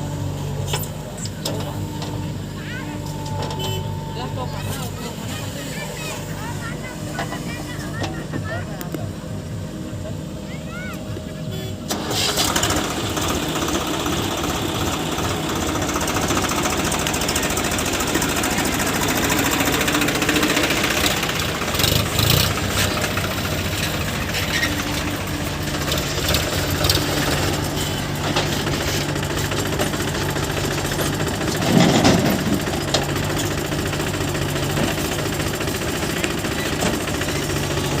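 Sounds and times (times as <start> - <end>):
diesel engine knocking clatter: 0.0 - 10.2, 10.8 - 38.0.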